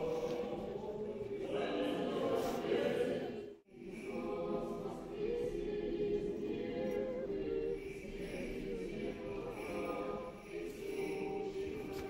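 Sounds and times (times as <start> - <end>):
choir singing a cappella: 0.0 - 12.0.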